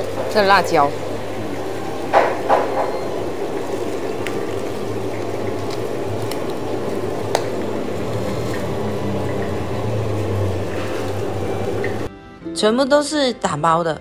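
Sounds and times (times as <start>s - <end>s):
food stall rumble and hum: 0.0s - 12.1s.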